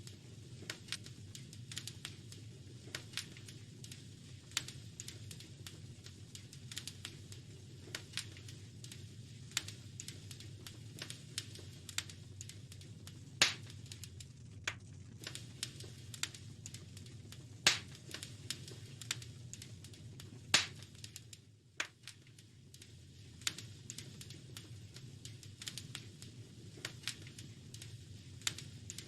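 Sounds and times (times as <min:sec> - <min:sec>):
low steady rumble: 0:00.0 - 0:29.0
wood fire crackling: 0:00.0 - 0:29.0.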